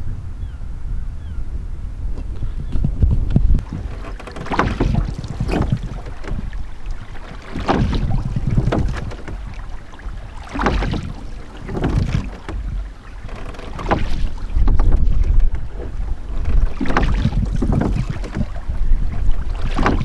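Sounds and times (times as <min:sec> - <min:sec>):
wind buffeting microphone: 0:00.0 - 0:20.0
water splashing against hull: 0:02.0 - 0:20.0.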